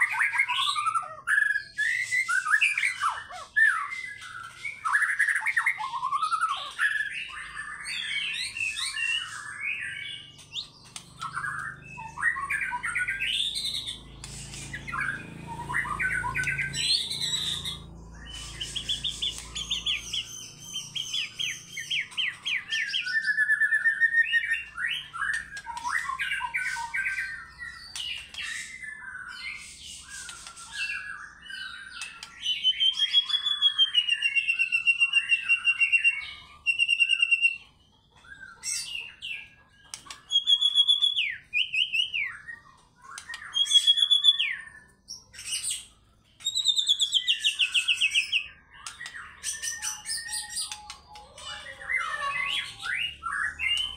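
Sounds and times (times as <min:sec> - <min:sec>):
bird singing varied song: 0:00.0 - 0:53.9.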